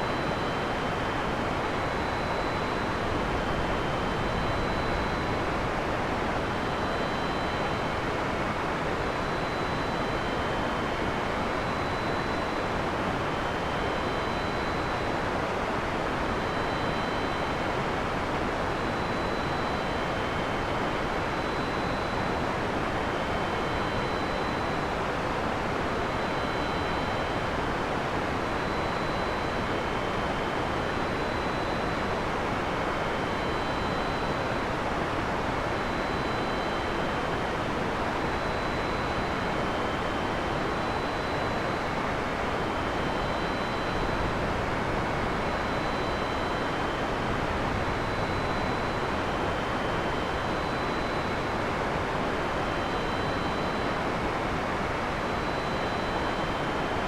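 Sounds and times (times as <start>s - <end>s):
faint high-pitched tones: 0.0s - 57.0s.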